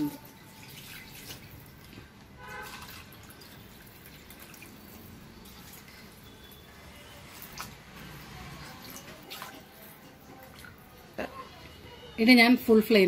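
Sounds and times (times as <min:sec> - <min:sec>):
wet sloshing in a pan: 0:00.0 - 0:11.5.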